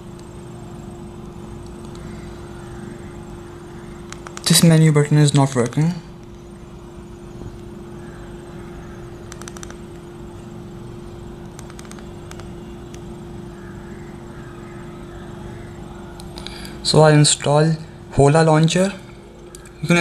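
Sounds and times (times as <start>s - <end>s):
constant mid-pitched tone: 0.0s - 20.0s
low background hum: 0.0s - 20.0s.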